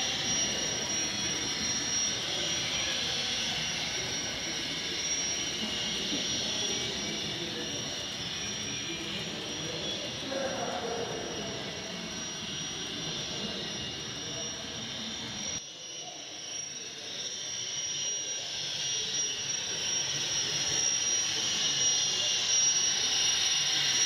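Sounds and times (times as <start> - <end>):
model train high whine: 0.0 - 24.0.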